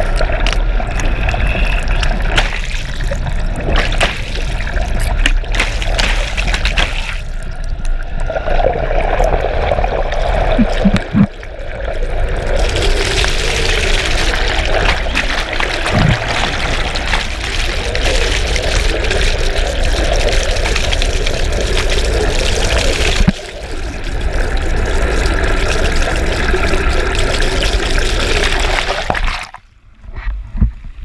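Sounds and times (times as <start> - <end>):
boat motor hum: 0.0 - 28.1
water splashes: 0.0 - 29.7
underwater rush of water and bubbles: 0.0 - 29.8.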